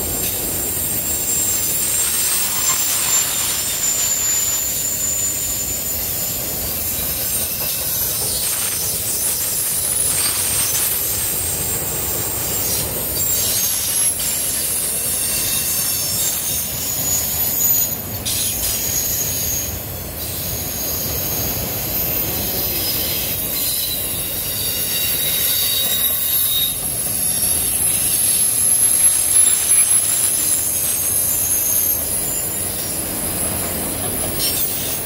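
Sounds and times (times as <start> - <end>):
freight train rumbling past: 0.0 - 35.0
wheels squealing on rails: 0.0 - 35.0.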